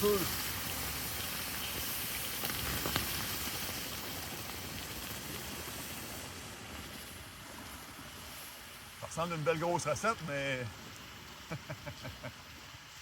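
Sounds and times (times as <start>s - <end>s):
embers hissing and sizzling: 0.0s - 13.0s
fire popping: 0.0s - 13.0s.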